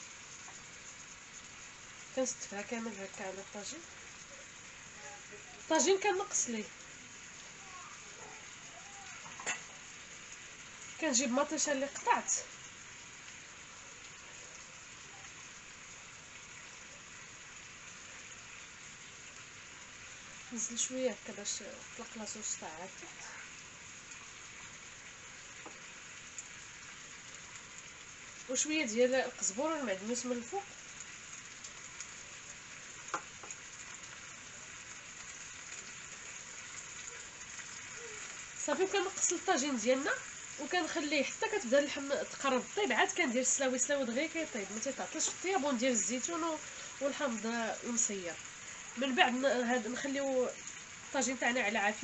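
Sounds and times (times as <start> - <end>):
food sizzling in a pot: 0.0 - 52.0.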